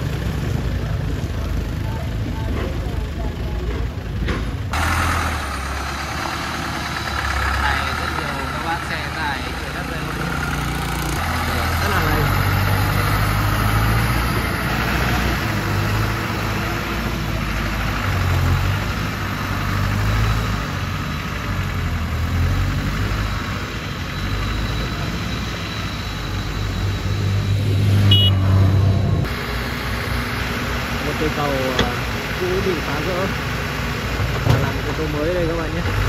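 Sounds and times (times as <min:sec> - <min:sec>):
truck diesel engine running: 0:00.0 - 0:36.0.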